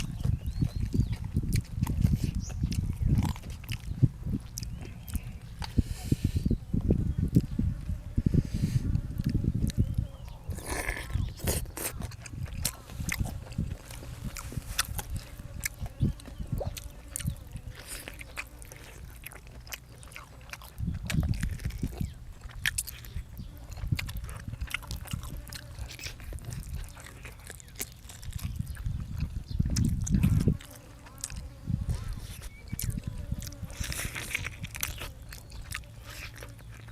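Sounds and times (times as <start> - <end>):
person chewing food: 0.0 - 6.1, 8.9 - 36.9.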